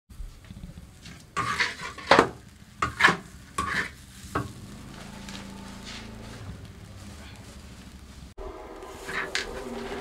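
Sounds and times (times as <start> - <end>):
spatula scraping wok: 0.8 - 10.0.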